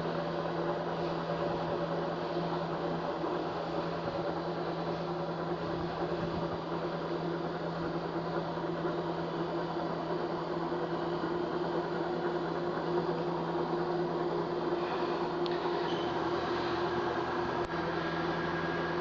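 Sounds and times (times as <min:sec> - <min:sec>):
electric drive humming: 0:00.0 - 0:19.0.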